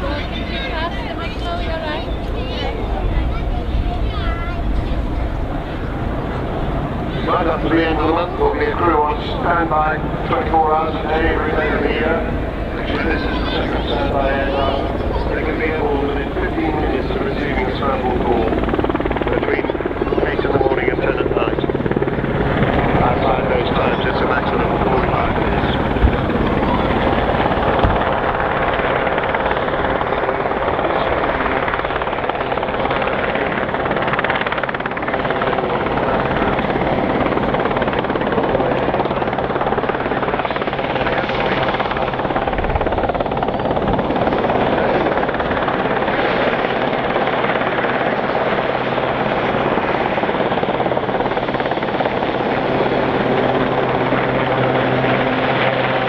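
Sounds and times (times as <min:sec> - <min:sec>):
helicopter rotors and engines: 0:00.0 - 0:56.0.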